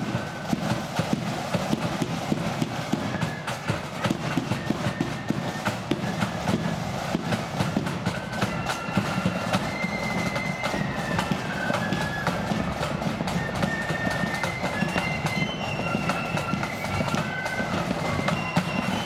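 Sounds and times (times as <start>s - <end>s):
flutes playing high melody: 0.0s - 19.0s
side drums march rhythm: 0.0s - 19.0s.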